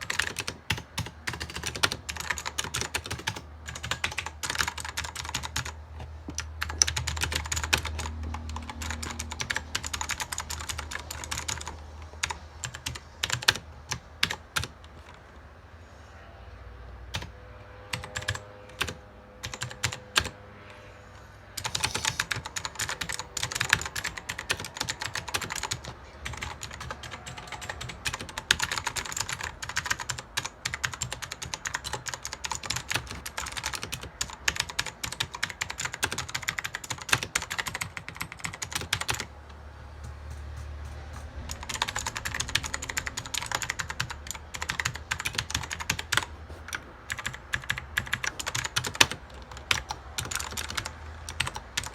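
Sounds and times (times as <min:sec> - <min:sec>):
typing on computer keyboard: 0:00.0 - 0:15.2, 0:17.1 - 0:17.3, 0:17.9 - 0:20.4, 0:21.6 - 0:51.9.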